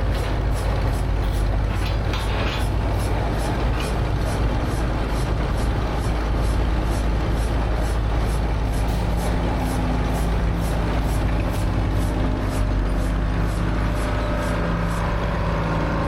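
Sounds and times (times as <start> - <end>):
heavy engine rumbling: 0.0 - 16.0
regular ticking: 0.0 - 16.0.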